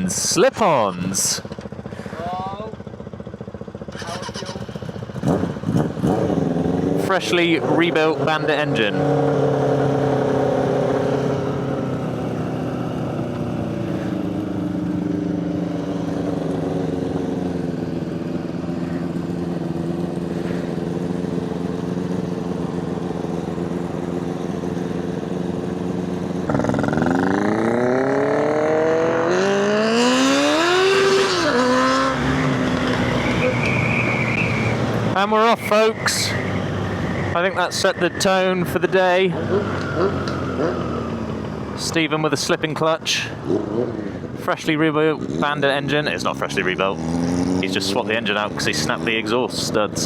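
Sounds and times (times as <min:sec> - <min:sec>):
motorcycle engine idling and revving: 0:00.0 - 0:50.0.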